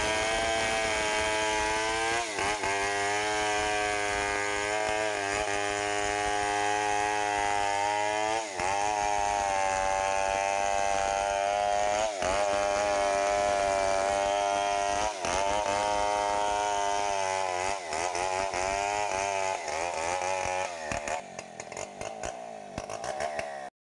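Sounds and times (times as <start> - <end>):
chainsaw cutting log: 0.0 - 23.7.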